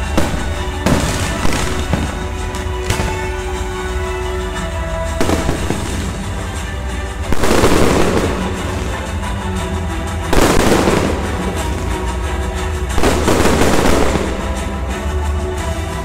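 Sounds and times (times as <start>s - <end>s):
fireworks bursting with crackle: 0.0s - 16.0s
music: 0.0s - 16.0s.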